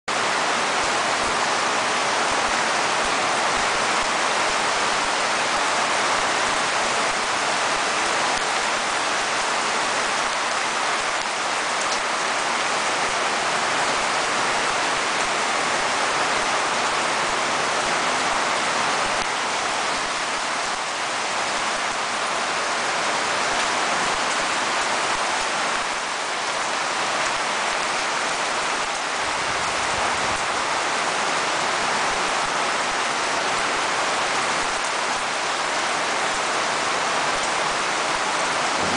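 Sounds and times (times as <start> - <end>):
heavy rain pouring: 0.1 - 38.9.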